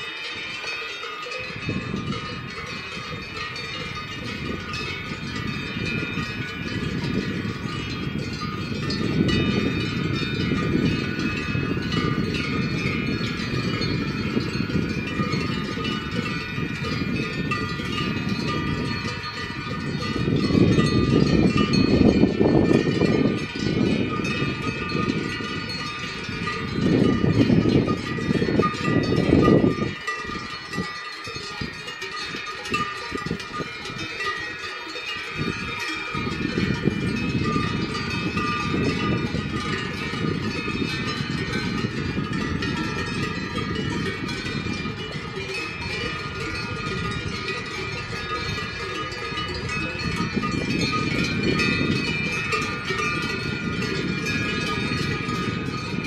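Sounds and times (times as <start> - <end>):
cowbells ringing: 0.0 - 56.0.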